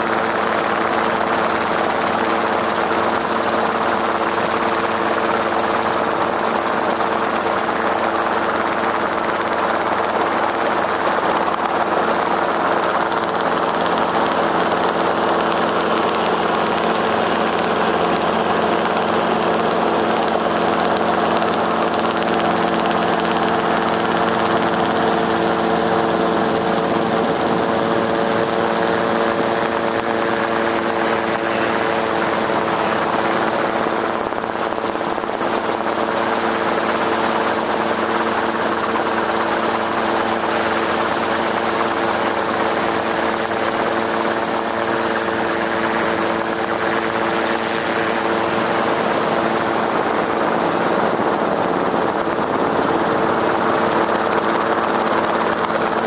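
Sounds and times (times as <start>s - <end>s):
aircraft rotors running: 0.0s - 56.0s.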